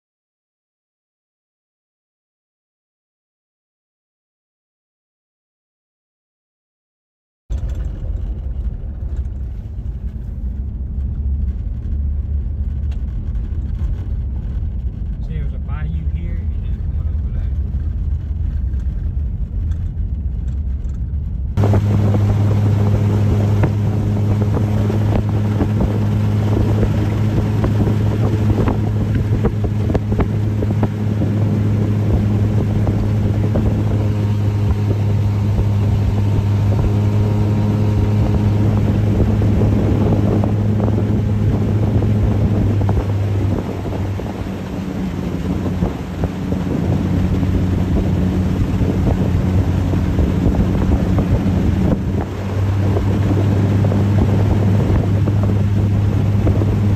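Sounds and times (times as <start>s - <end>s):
boat motor running: 7.5s - 56.9s
vehicle rumble on gravel: 7.5s - 56.9s
wind on microphone: 7.6s - 56.9s.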